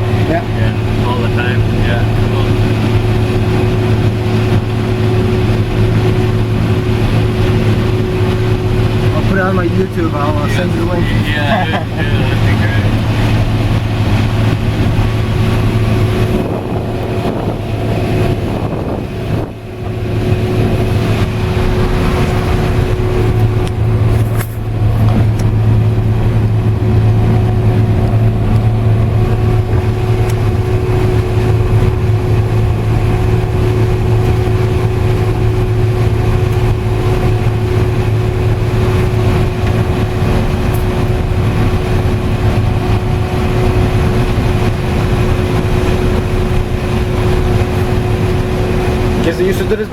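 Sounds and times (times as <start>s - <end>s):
combine harvester running: 0.0s - 49.9s.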